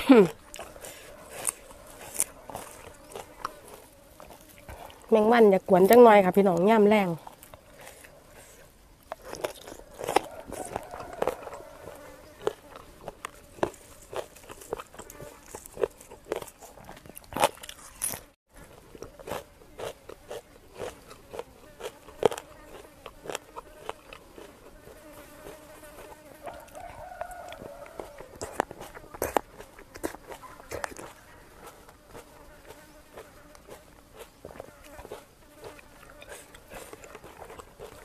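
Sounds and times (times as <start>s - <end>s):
wet chewing: 0.0s - 38.0s.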